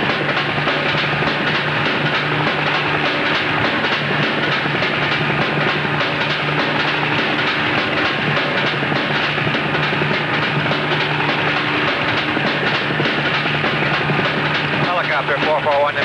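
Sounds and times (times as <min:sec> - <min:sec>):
helicopter engine hum: 0:00.0 - 0:16.0
helicopter rotor blades beating: 0:00.0 - 0:16.0.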